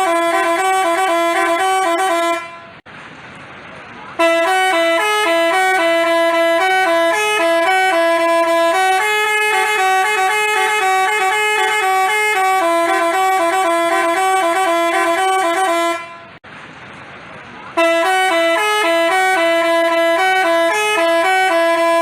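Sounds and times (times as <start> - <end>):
multi-tone bus horn melody: 0.0 - 2.8, 4.1 - 16.4, 17.7 - 22.0.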